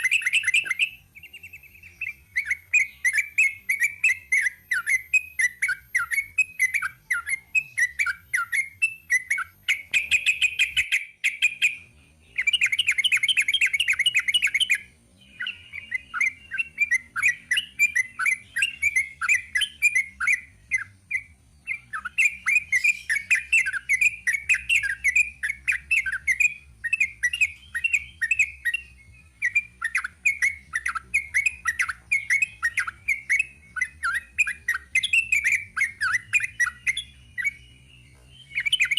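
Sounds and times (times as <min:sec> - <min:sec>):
bird singing chirped notes: 0:00.0 - 0:38.9.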